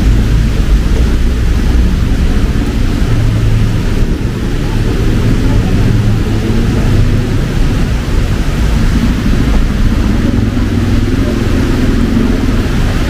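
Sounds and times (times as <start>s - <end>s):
heavy rain hiss: 0.0s - 13.0s
vehicles on wet road: 0.0s - 13.0s.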